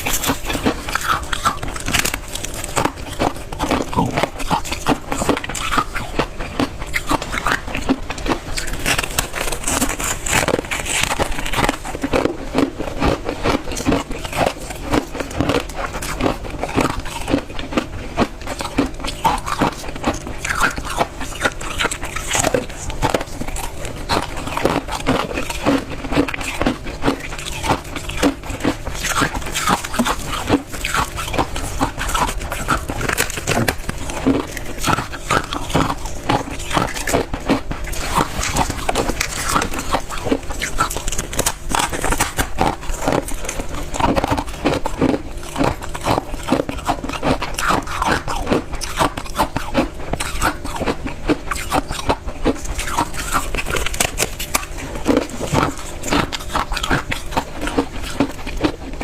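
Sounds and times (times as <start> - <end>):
chewing crunchy ice: 0.0 - 59.0.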